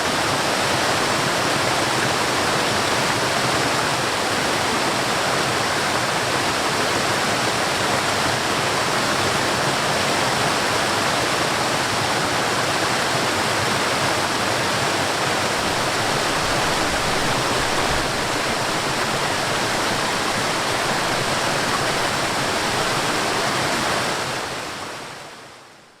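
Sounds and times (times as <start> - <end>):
water rushing over waterfall: 0.0 - 25.6.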